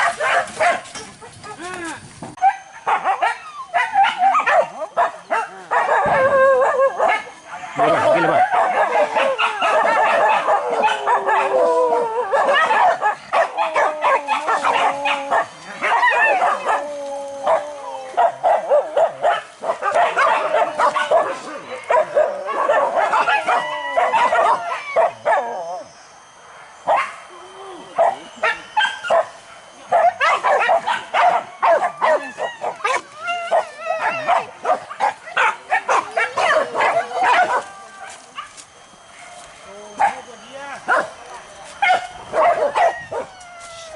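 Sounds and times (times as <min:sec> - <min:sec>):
dogs barking and yelping: 0:00.0 - 0:01.8, 0:02.4 - 0:43.9
dogs baying: 0:00.0 - 0:01.8, 0:02.4 - 0:43.9.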